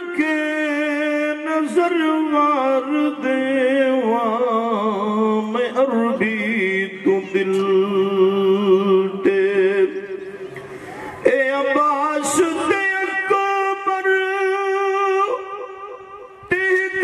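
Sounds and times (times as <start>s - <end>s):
man singing devotional song: 0.0s - 10.4s, 11.2s - 17.0s.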